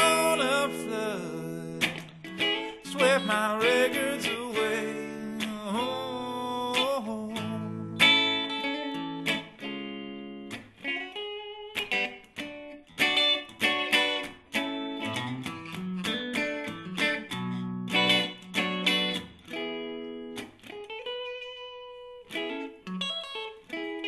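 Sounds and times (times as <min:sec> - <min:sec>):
guitar strumming chords: 0:00.0 - 0:24.0.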